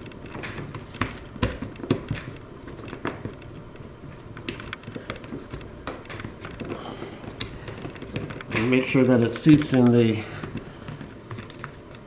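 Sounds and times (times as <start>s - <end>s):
plastic parts clicking: 0.0s - 12.0s.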